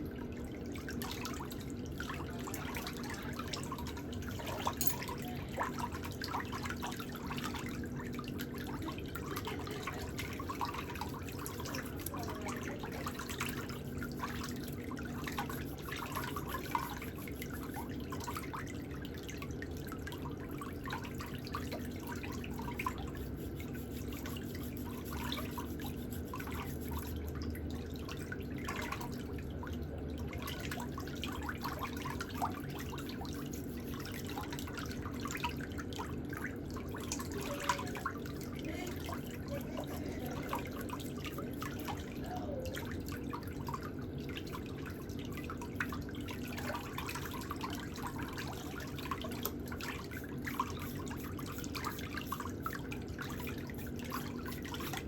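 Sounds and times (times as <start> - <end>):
steady low hum: 0.0 - 55.0
water dripping and trickling: 0.0 - 55.0.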